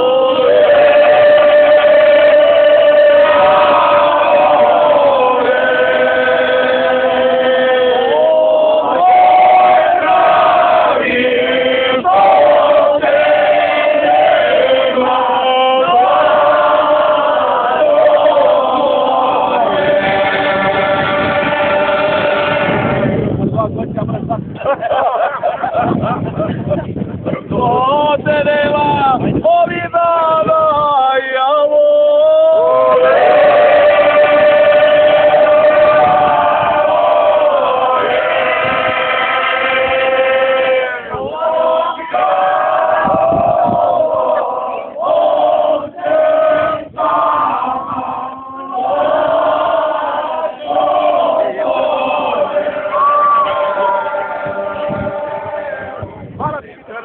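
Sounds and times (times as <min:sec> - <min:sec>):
group of voices singing: 0:00.0 - 0:23.4, 0:30.4 - 0:56.2.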